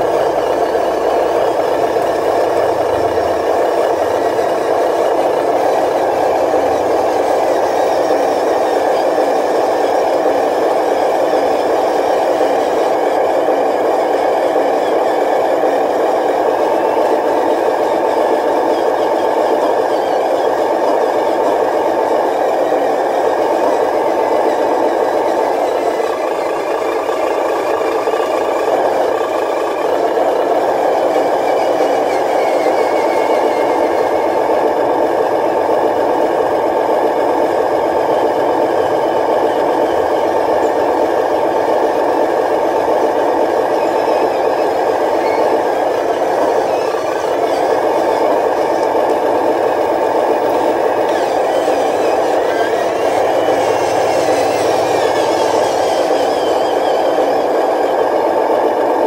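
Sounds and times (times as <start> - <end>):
model truck motor running: 0.0 - 59.0.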